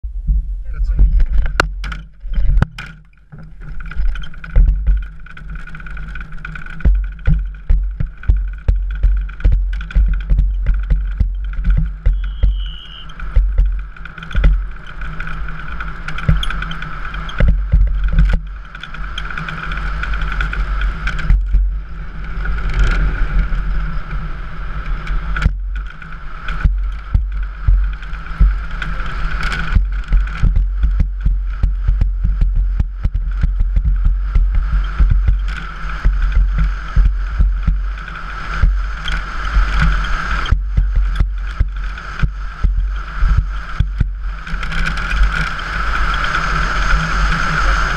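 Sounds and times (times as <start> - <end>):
road rumble of rolling wheels: 0.0 - 47.9
steady high whine: 0.0 - 47.9
knocks and rattles over bumps: 0.3 - 47.9.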